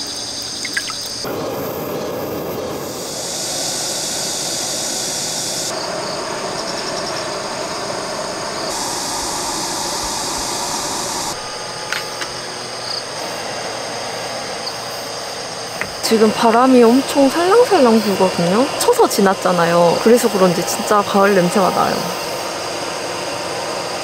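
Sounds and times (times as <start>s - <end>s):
pan hissing on gas burner: 1.2s - 13.5s, 14.7s - 24.0s.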